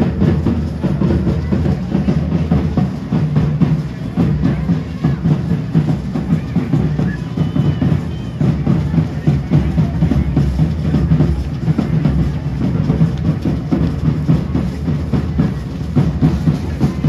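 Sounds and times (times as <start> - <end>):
bass drum beaten with stick: 0.0 - 17.0.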